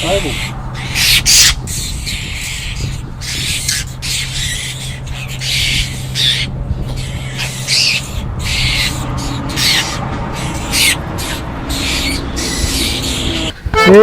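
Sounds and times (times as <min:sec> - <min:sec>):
birds harsh rasping calls: 0:00.0 - 0:14.0.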